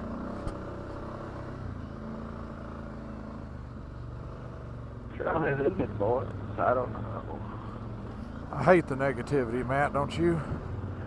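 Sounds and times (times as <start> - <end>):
atv engine humming: 0.0 - 11.0.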